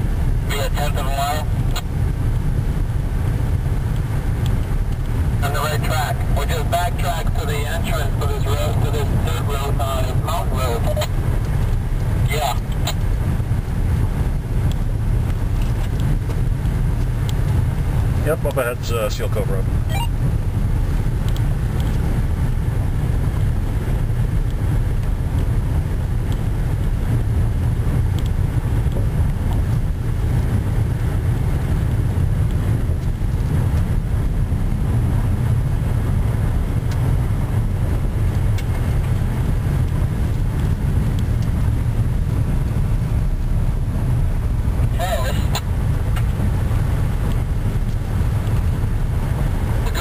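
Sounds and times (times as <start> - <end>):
car cabin engine and tyre rumble: 0.0 - 50.0.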